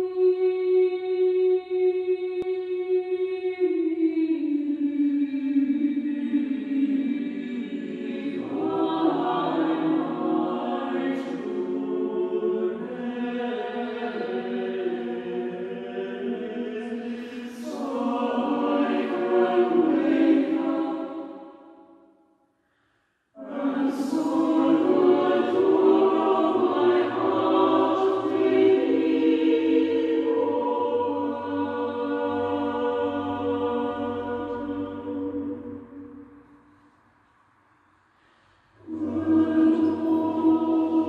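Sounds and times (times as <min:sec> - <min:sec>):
choir singing: 0:00.0 - 0:22.1, 0:23.4 - 0:36.6, 0:38.8 - 0:41.0.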